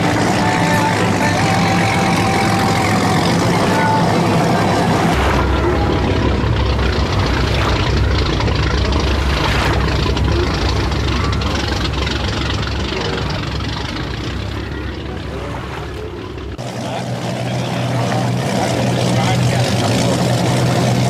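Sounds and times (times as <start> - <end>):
motorboat engine rumbling: 0.0 - 21.0.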